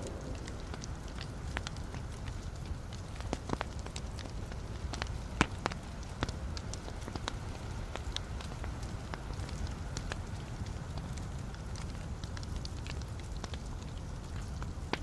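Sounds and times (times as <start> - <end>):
logs crackling and popping: 0.0 - 15.0
rumble of flame: 0.0 - 15.0.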